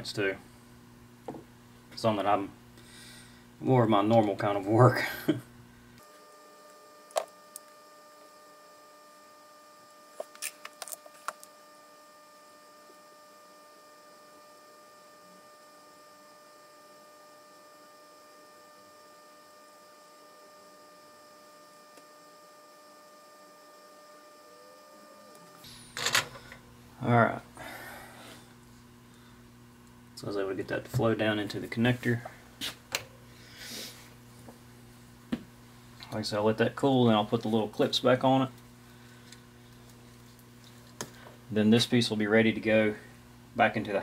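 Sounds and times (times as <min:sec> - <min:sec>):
faint electrical hum: 0:00.0 - 0:44.0.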